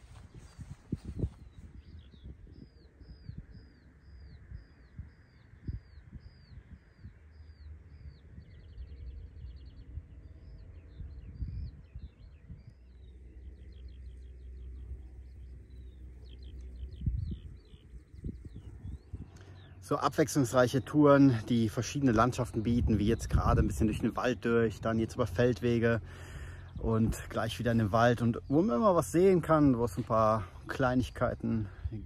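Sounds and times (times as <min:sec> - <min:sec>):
songbird chirping and trilling: 0:00.0 - 0:32.0
wind rumble: 0:00.0 - 0:32.0.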